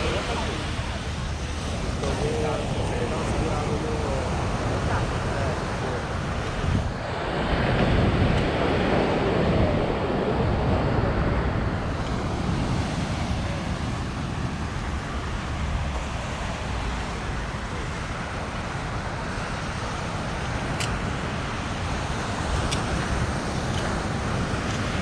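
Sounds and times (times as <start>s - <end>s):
passing road traffic: 0.0s - 25.0s
wind rumbling on microphone: 0.0s - 25.0s.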